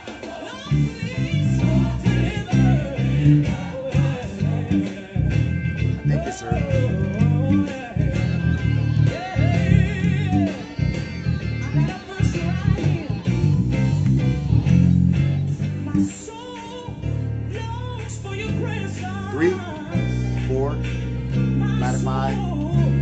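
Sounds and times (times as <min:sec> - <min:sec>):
person singing: 0:00.0 - 0:13.7, 0:15.7 - 0:20.8, 0:21.5 - 0:23.0
backing music: 0:00.0 - 0:23.0
plucked bass guitar: 0:00.6 - 0:23.0.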